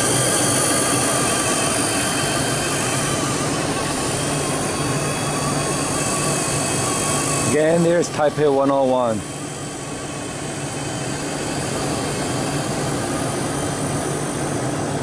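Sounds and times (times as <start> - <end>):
rc helicopter rotors whining: 0.0 - 15.0.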